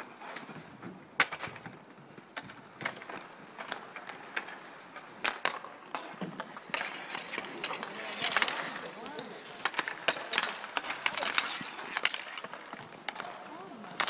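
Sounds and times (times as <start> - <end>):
hockey sticks hitting ball: 0.0 - 14.0
inline skate wheels rolling: 0.0 - 14.0.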